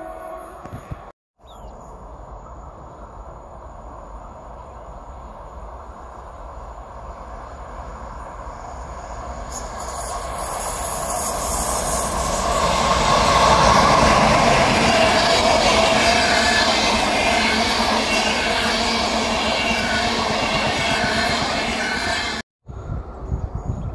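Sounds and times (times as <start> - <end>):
train running on rails: 0.0 - 1.1, 1.9 - 23.8.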